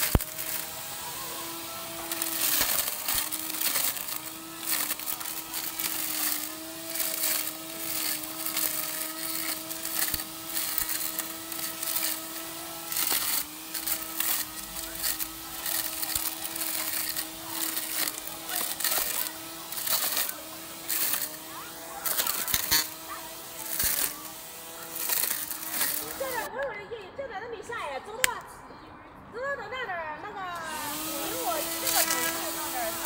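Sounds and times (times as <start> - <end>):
electric grass trimmer whine: 0.0 - 26.5, 30.6 - 33.0
grass and leaves crackling: 0.0 - 26.5, 30.6 - 33.0.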